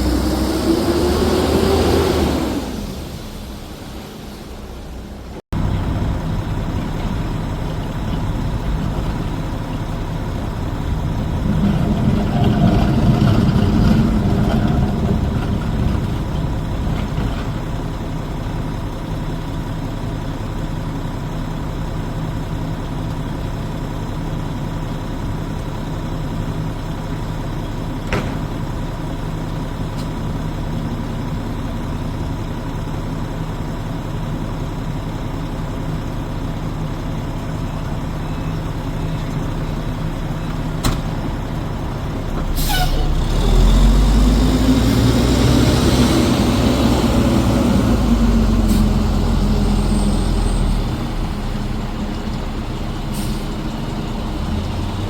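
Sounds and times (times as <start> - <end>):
garbage truck engine: 0.0 - 55.0.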